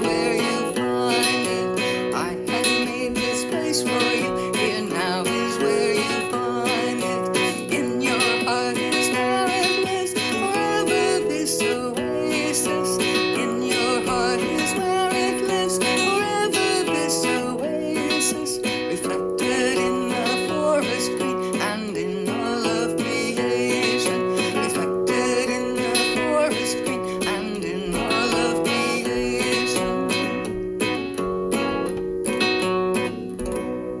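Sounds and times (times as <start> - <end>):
person singing: 0.0 - 32.4
acoustic guitar strummed and plucked: 0.0 - 34.0.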